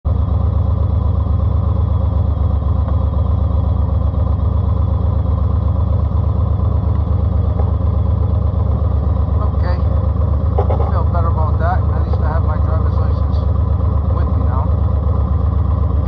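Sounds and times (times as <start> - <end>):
engine idling with deep exhaust: 0.1 - 16.0.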